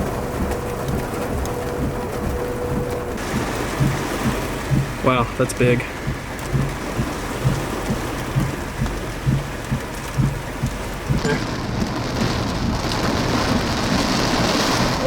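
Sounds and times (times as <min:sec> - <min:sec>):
heavy rain hissing: 0:00.0 - 0:15.0
low thumps: 0:00.0 - 0:15.0.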